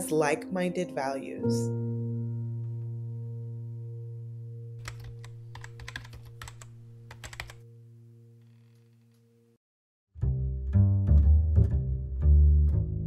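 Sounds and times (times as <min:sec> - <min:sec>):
low background music note: 0:00.0 - 0:09.6, 0:10.2 - 0:13.0.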